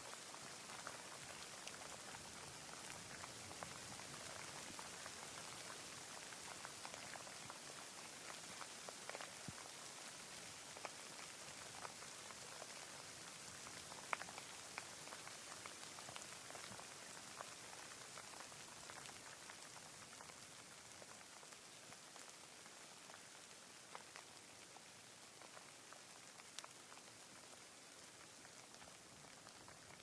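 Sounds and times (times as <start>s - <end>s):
faint rain falling: 0.0s - 30.0s.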